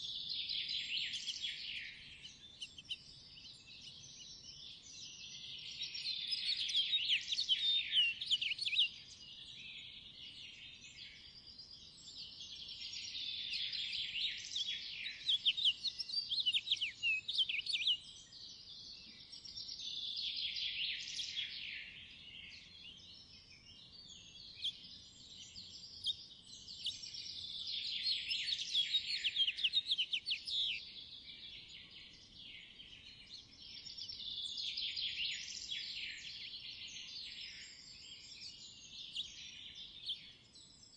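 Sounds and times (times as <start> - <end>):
songbirds twittering: 0.0 - 40.9.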